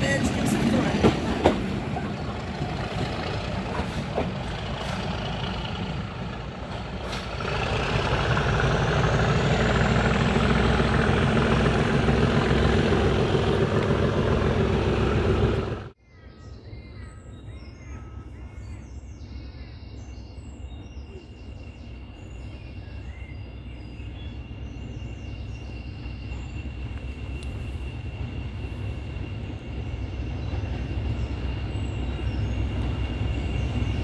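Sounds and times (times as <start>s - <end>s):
diesel locomotive engine: 0.0s - 16.0s, 17.2s - 34.0s
faint birdsong: 0.0s - 34.0s.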